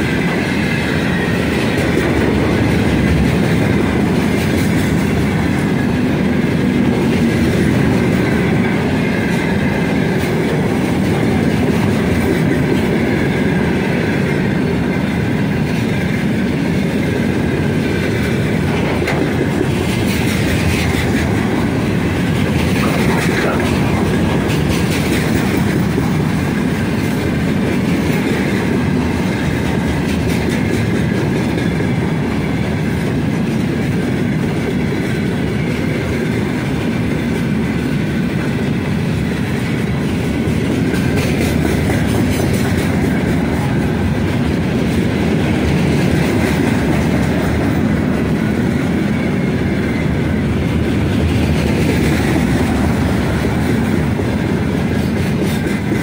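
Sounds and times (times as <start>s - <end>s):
steel wheels rumbling on rails: 0.0s - 56.0s
wheels clicking over rail joints: 0.0s - 56.0s.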